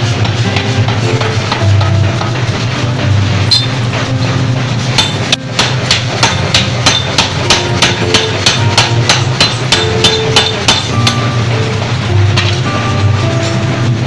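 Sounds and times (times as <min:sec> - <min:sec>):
forging hammer striking metal: 0:00.0 - 0:13.6
low machine hum: 0:00.0 - 0:14.0.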